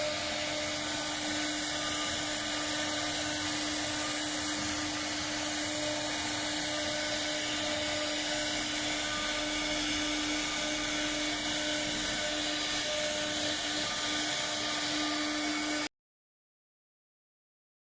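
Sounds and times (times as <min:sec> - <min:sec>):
wood router spindle whine: 0:00.0 - 0:15.9.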